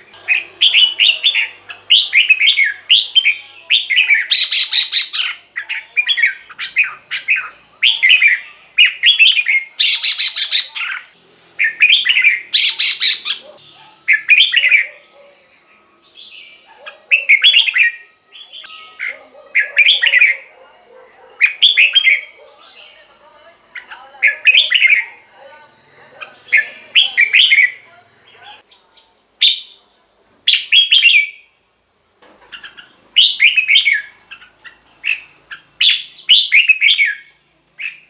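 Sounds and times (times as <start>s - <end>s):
bird singing: 0.0s - 31.6s, 32.4s - 38.0s.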